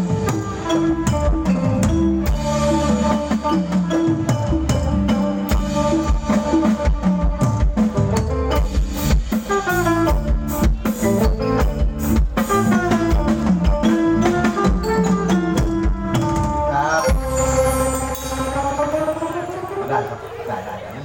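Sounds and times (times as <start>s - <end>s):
drum kit beat: 0.0s - 19.8s
live band music: 0.0s - 21.0s.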